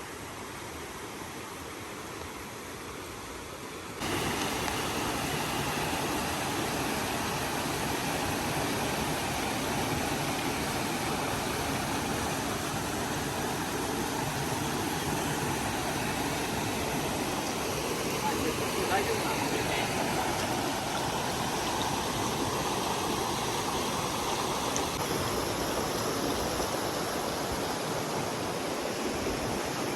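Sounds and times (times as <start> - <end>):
waterfall rushing: 4.0 - 29.9.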